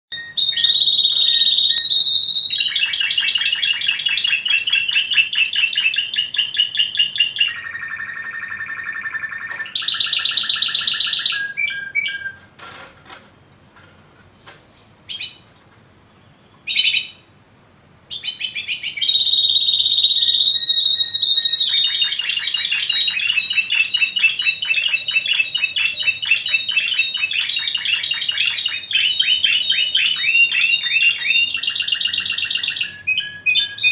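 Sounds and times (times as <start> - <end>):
canary singing trills: 0.1 - 12.4, 15.1 - 15.5, 16.1 - 17.3, 18.1 - 33.9.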